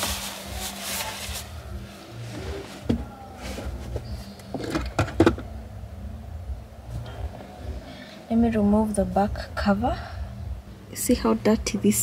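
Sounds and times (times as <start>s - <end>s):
steady low hum: 1.3s - 12.0s.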